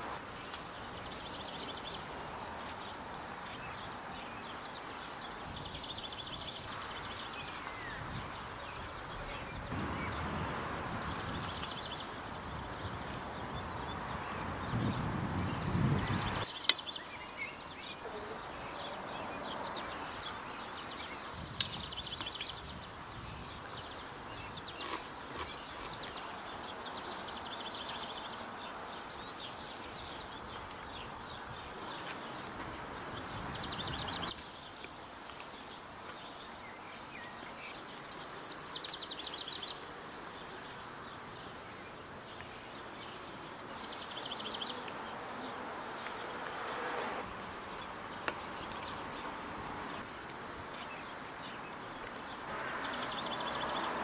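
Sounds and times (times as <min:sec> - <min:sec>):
outdoor background hiss: 0:00.0 - 0:54.0
songbirds chirping and trilling: 0:00.0 - 0:54.0.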